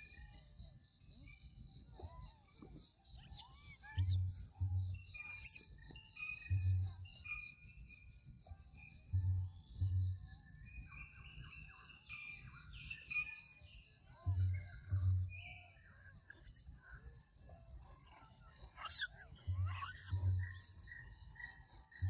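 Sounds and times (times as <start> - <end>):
faint chirps: 0.0 - 22.0
insects trilling: 0.0 - 22.0.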